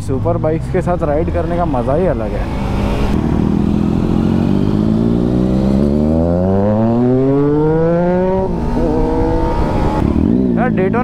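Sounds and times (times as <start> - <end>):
motorcycle engine accelerating: 0.2 - 11.0.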